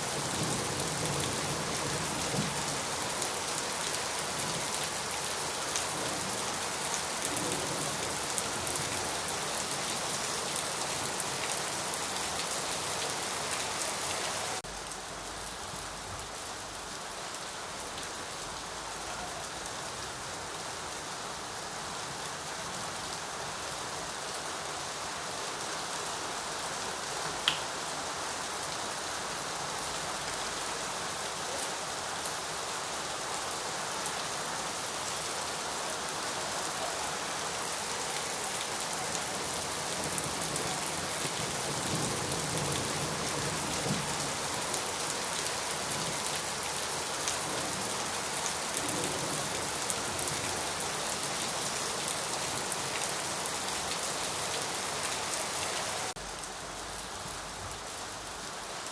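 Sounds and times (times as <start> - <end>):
steady rain patter: 0.0 - 58.9.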